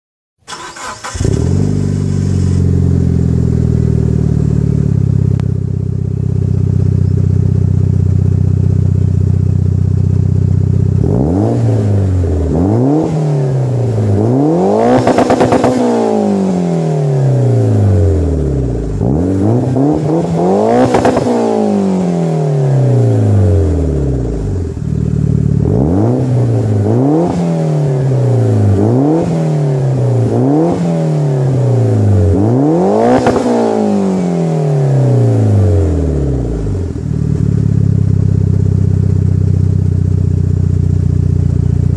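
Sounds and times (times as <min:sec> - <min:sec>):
car engine idling and revving: 0:00.5 - 0:41.9.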